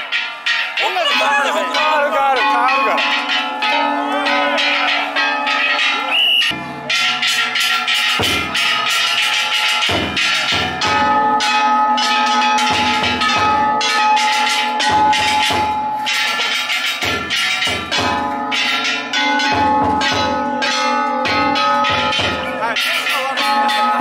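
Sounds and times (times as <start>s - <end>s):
metallic hand gong clangs: 2.9s - 24.0s.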